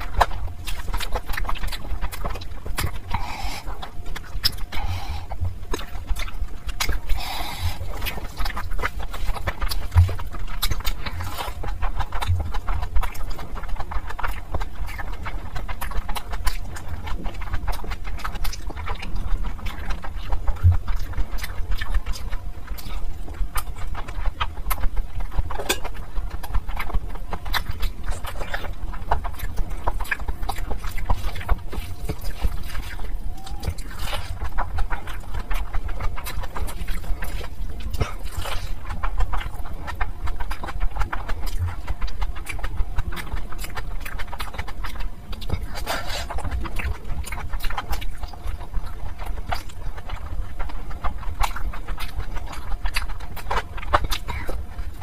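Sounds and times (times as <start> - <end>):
wet chewing and lip smacks: 0.0 - 55.0.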